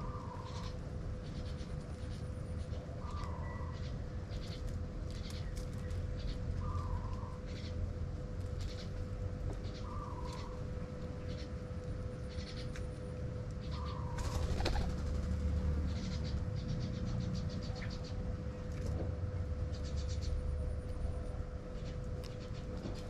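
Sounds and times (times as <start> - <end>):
birds chirping trills: 0.0 - 23.0
steady low hum: 0.0 - 23.0.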